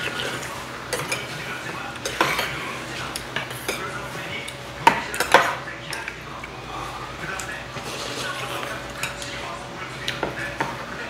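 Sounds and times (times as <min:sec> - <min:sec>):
spoons clinking and scraping bowls: 0:00.0 - 0:11.0.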